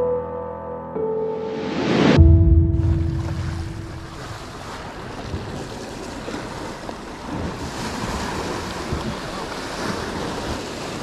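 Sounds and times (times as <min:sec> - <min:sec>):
sea waves washing ashore: 0:01.8 - 0:11.0.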